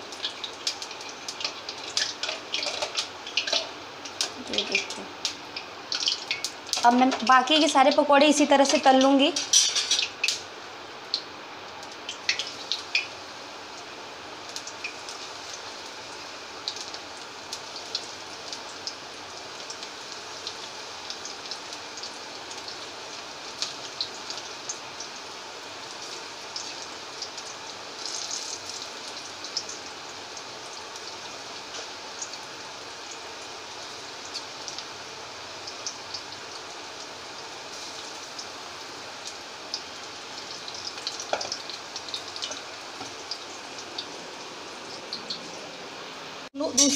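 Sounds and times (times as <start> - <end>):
food deep-frying in oil: 0.0 - 46.9.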